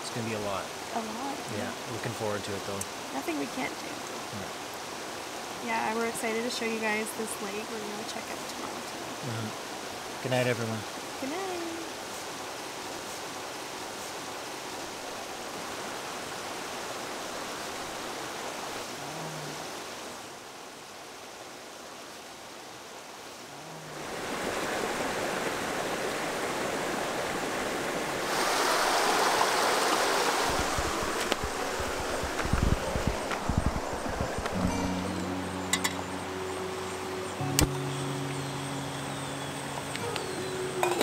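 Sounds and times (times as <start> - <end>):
running water rushing: 0.0 - 41.0.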